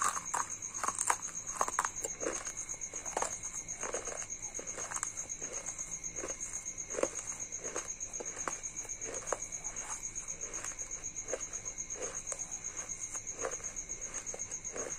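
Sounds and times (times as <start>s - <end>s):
chewing crunchy clay: 0.0s - 14.9s.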